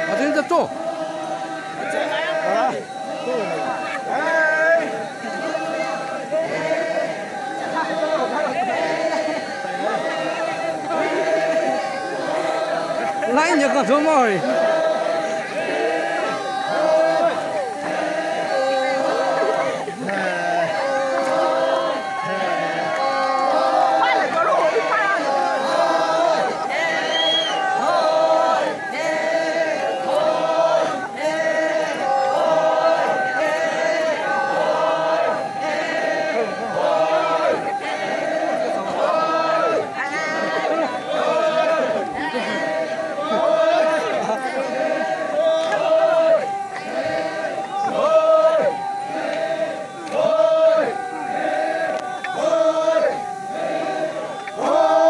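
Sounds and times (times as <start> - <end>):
group singing folk chant: 0.0 - 55.0.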